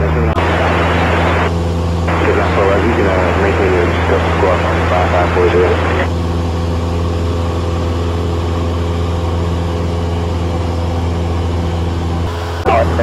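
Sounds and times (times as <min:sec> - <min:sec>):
light aircraft engine droning: 0:00.0 - 0:13.0.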